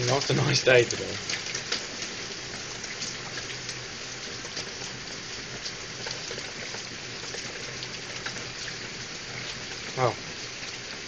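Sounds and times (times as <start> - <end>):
pattering drip ticks: 0.0 - 11.0
rain and hail on pavement: 0.0 - 11.0.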